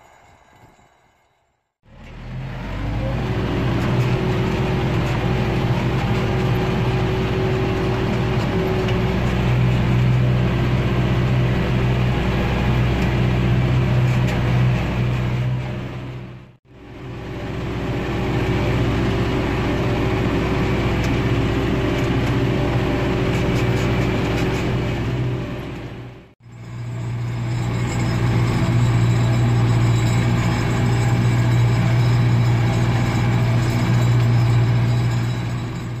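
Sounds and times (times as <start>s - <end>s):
tractor engine running under load: 1.8s - 36.0s.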